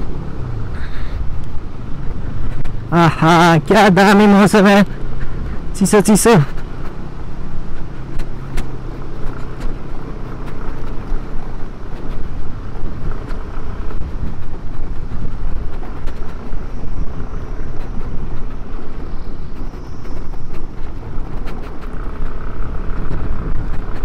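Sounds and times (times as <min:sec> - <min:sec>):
scooter engine running: 0:00.0 - 0:24.0
tyre and road noise: 0:00.0 - 0:24.0.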